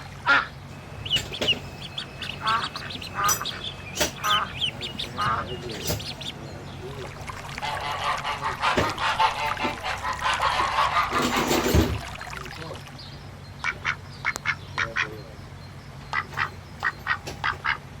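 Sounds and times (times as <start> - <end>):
ducks quacking: 0.0 - 12.8, 13.5 - 15.4, 16.1 - 17.9.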